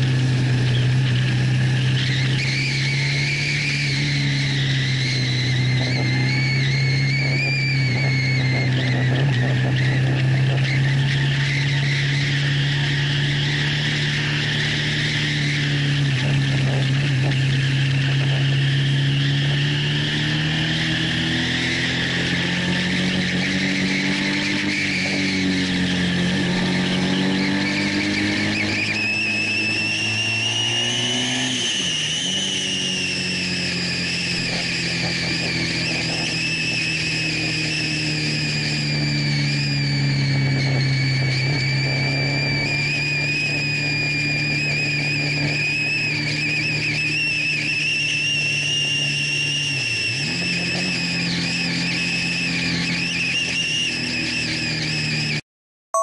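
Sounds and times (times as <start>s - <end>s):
motorcycle engine revving: 0.0s - 55.4s.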